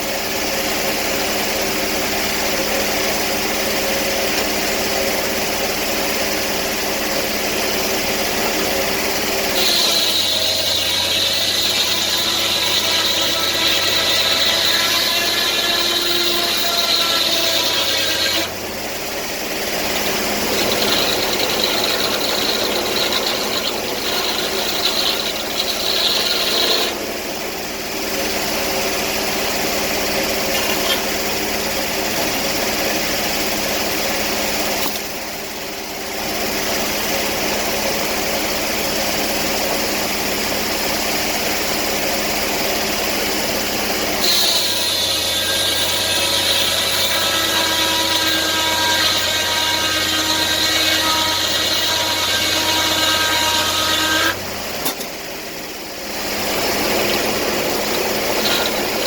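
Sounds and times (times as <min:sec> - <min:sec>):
sawmill engine running: 0:00.0 - 0:59.0
high blade whine: 0:01.4 - 0:35.2, 0:41.6 - 0:59.0.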